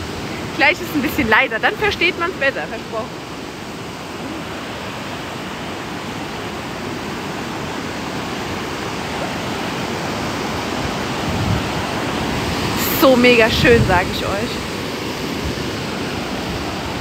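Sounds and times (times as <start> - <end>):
rapids rushing: 0.0 - 17.0.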